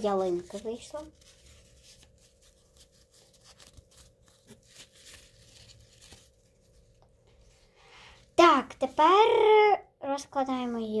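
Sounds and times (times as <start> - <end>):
paper napkin crinkling: 0.0 - 9.2
faint steady hum: 0.0 - 11.0.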